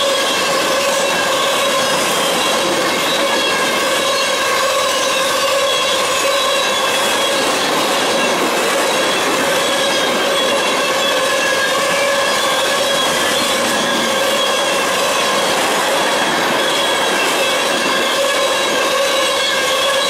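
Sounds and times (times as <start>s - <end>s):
steel wheels rumbling on rail: 0.0s - 20.0s
wheels squealing: 0.0s - 20.0s.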